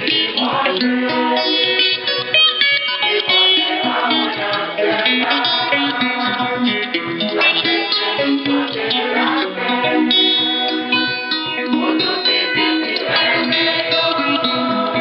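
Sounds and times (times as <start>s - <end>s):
choir singing: 0.0s - 15.0s
strummed acoustic guitar: 0.0s - 15.0s.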